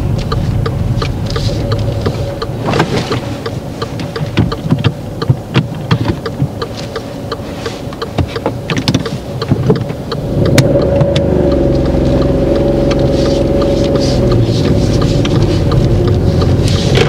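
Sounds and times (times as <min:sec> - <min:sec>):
car engine revving: 0:00.0 - 0:17.0
light ticks and clicks: 0:00.1 - 0:17.0.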